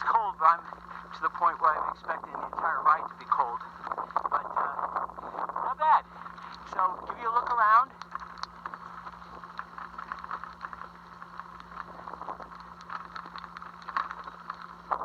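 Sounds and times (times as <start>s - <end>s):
faint low hum: 0.0s - 15.0s
light rain pattering: 0.0s - 15.0s.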